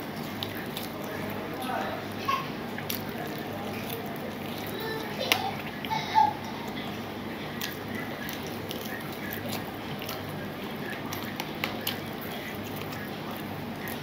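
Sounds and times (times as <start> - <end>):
chewing and lip-smacking: 0.0 - 5.9, 6.5 - 14.0
fingers squishing wet food: 0.0 - 6.0, 6.6 - 14.0
low background hum: 0.0 - 14.0.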